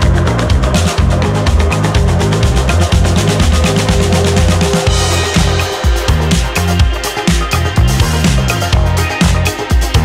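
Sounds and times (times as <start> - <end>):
electronic music with drum beat: 0.0 - 10.0.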